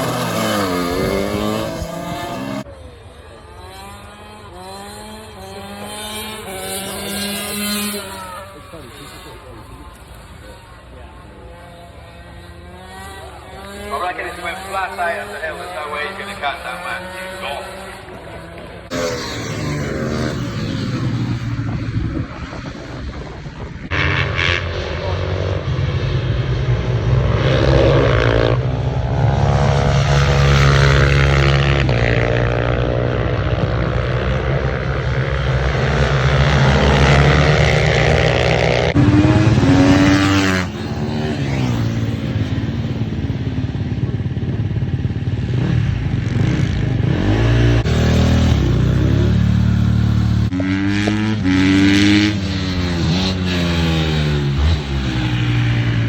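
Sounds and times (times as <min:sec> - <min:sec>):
racing motorcycle engines revving: 0:00.0 - 0:56.0.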